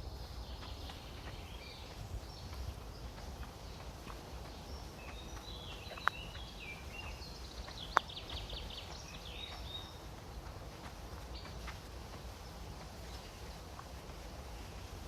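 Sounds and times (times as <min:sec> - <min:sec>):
low wind rumble: 0:00.0 - 0:15.0
songbirds chirping and trilling: 0:00.0 - 0:15.0.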